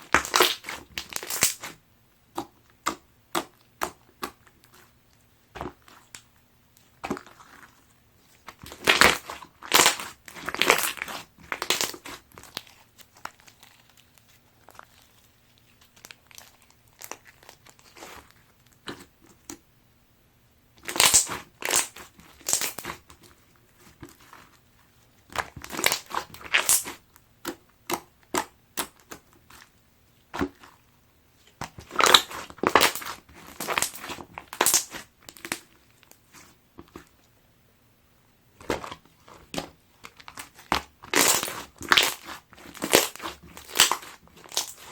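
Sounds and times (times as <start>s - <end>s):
slime squeezed crackling: 0.0s - 5.0s, 5.6s - 19.5s, 20.8s - 24.6s, 25.3s - 30.8s, 31.6s - 36.4s, 38.6s - 44.9s.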